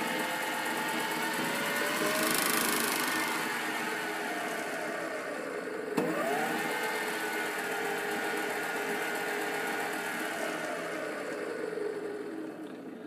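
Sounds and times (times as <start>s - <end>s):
lathe motor whine: 0.0s - 13.0s.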